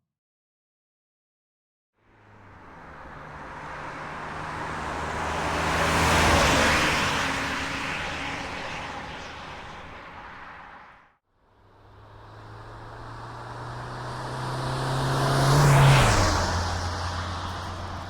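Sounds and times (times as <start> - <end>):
diesel van driving past: 2.1 - 11.0, 11.7 - 18.0.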